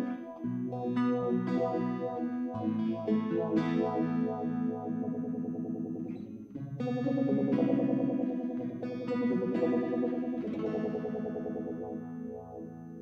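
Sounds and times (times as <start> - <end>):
electric guitar chords ringing: 0.0 - 13.0.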